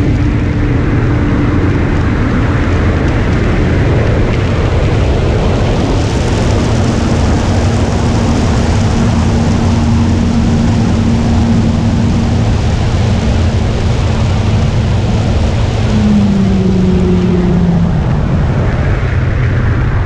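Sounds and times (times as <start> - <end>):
model plane propeller humming: 0.0 - 20.0
rush of air over airframe: 0.0 - 20.0.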